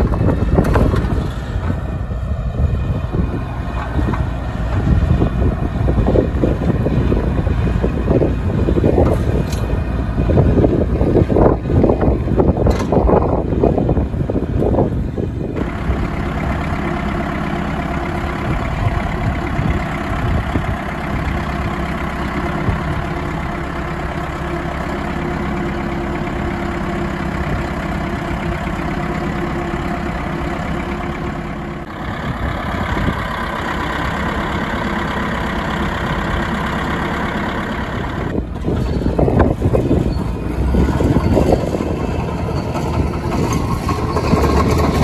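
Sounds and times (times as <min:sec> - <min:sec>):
diesel engine idling: 0:00.0 - 0:45.0.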